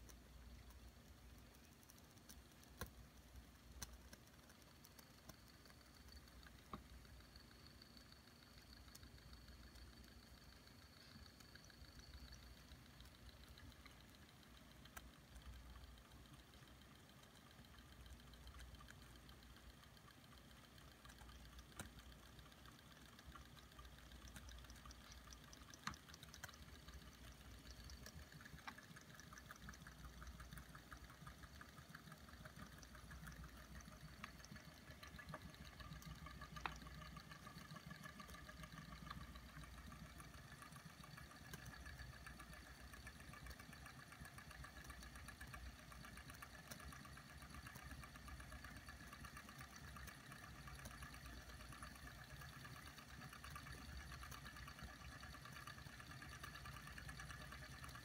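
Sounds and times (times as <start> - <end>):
sharp clicks: 0.0 - 58.0.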